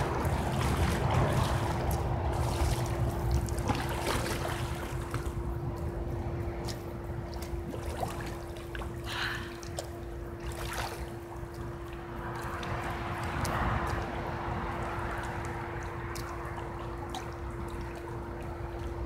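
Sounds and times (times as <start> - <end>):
pool water sloshing and splashing: 0.0 - 19.0
steady hum: 0.0 - 19.0.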